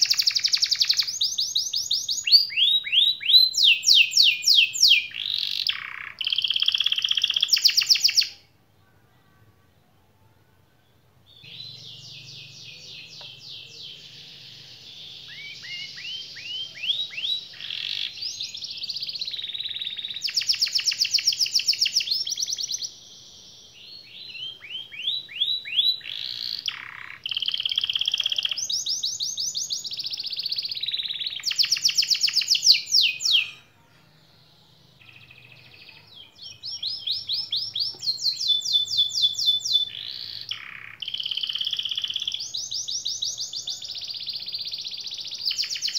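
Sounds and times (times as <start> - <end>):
canary singing trills: 0.0 - 8.6, 11.2 - 45.9.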